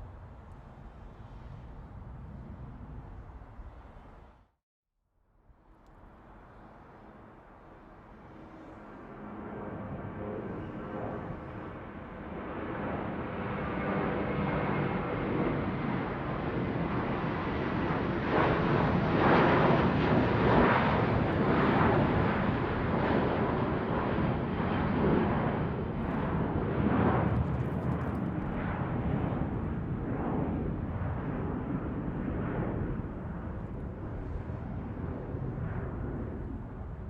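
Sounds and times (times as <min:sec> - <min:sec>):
airplane rumble overhead: 0:00.0 - 0:04.6, 0:05.3 - 0:37.0.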